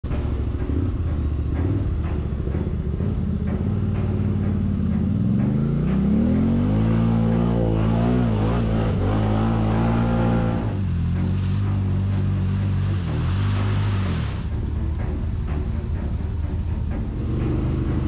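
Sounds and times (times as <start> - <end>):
atv engine revving: 0.1 - 18.0.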